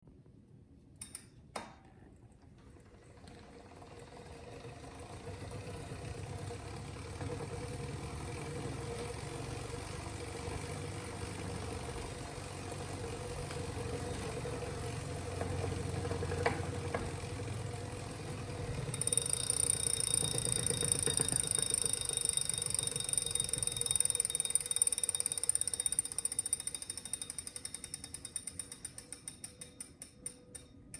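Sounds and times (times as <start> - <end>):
bike trainer grinding: 3.1 - 30.7.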